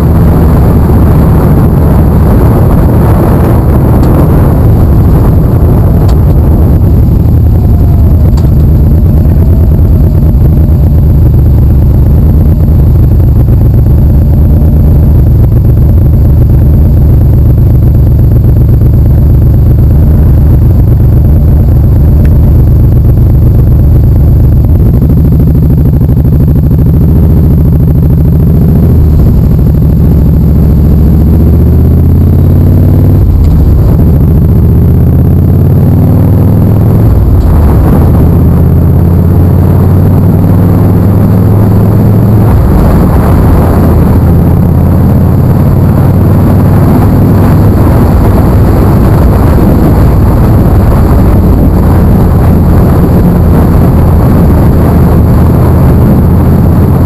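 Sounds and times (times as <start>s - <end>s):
motorcycle engine idling and accelerating: 0.0s - 57.0s.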